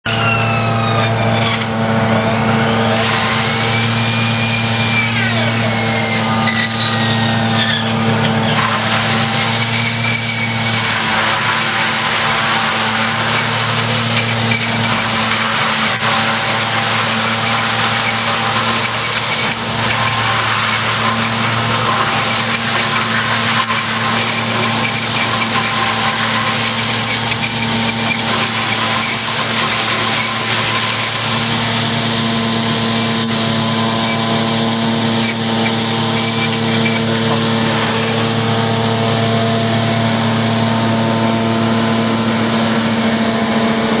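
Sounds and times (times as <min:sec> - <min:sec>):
harvester engine drone: 0:00.1 - 0:44.0
machine chipping wood rushing: 0:00.1 - 0:44.0.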